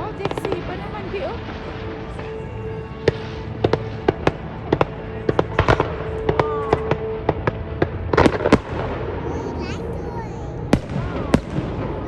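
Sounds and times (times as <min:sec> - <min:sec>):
fireworks bangs and crackling pops: 0:00.0 - 0:09.7, 0:10.7 - 0:12.0.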